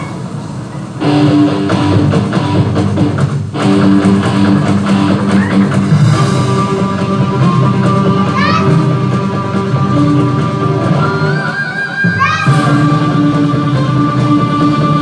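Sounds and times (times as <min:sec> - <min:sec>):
instrumental background music: 0:01.0 - 0:15.0.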